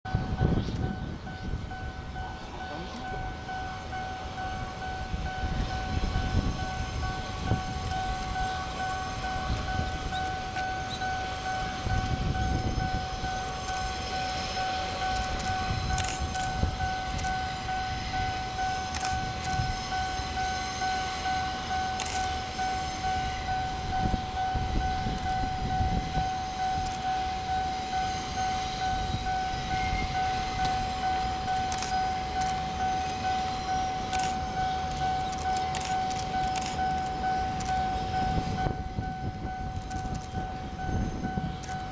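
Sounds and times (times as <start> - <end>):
freight train rumbling past: 0.0 - 41.9
pulsing high ringing tone: 0.1 - 41.9
train wheels clicking: 0.1 - 41.9.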